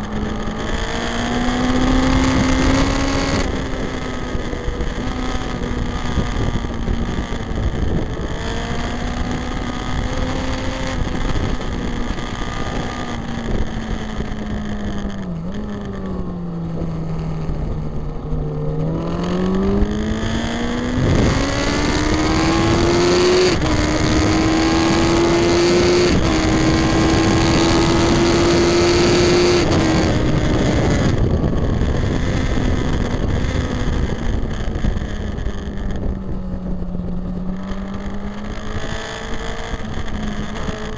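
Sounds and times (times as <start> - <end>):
motorcycle engine at racing speed: 0.0 - 40.9.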